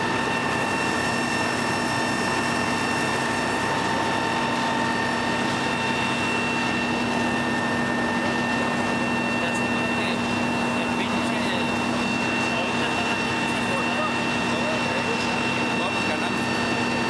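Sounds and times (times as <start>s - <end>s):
constant whine: 0.0s - 17.0s
diesel engines running: 0.0s - 17.0s.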